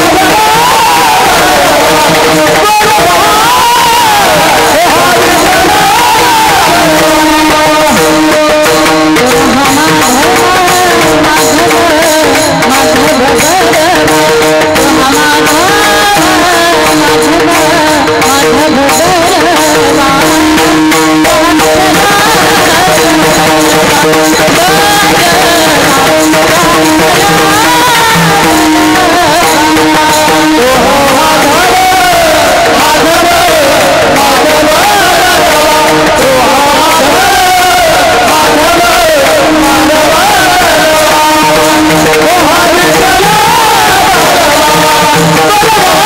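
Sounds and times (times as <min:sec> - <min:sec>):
devotional singing: 0:00.0 - 0:46.0
hand drum: 0:00.0 - 0:46.0
tabla: 0:00.0 - 0:46.0.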